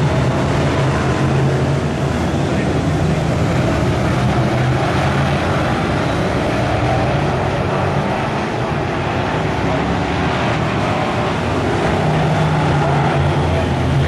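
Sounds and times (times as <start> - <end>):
racing car engines roaring past: 0.0 - 14.0.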